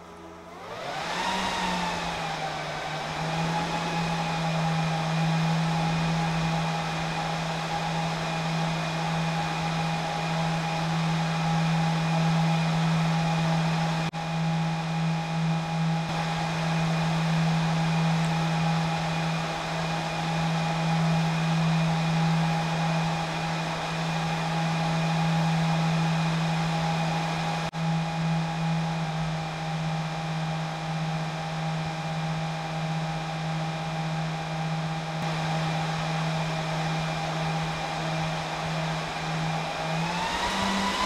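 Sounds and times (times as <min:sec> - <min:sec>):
server cooling fans whirring: 0:00.0 - 0:41.0.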